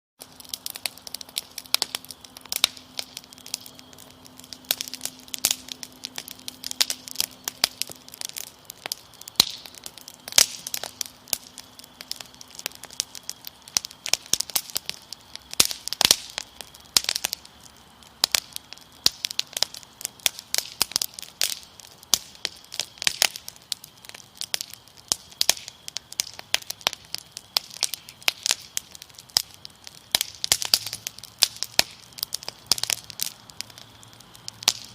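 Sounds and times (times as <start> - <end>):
wood fire crackling: 0.2 - 34.9
cricket trill: 0.3 - 34.9.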